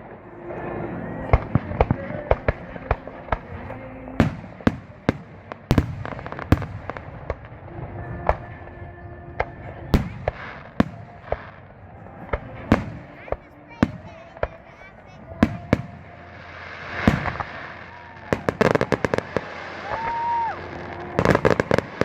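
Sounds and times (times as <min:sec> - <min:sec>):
fireworks bangs and pops: 0:01.3 - 0:08.5, 0:09.4 - 0:11.6, 0:12.2 - 0:22.0.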